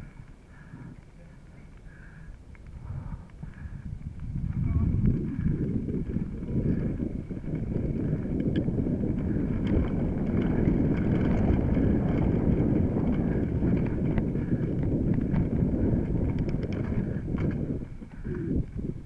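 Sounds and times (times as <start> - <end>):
bike clicks and rattles: 0.0 - 19.0
bike tyres rumbling on dirt: 0.0 - 19.0.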